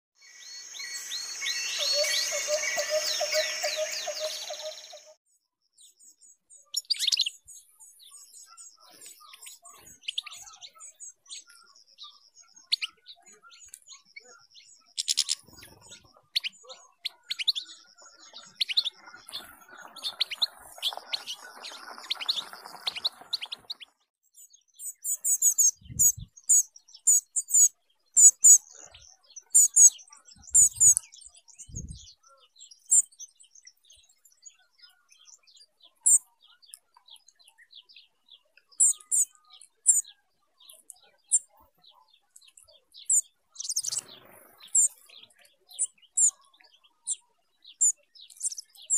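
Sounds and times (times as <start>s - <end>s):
small birds chirping: 0.2s - 48.9s.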